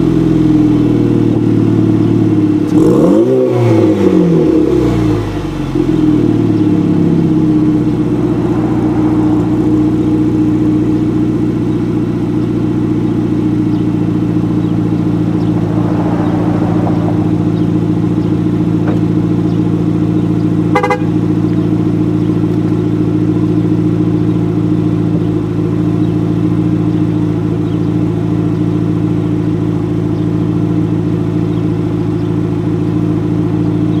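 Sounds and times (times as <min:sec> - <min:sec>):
car engine idling: 0:00.0 - 0:34.0
car engine revving: 0:00.0 - 0:34.0.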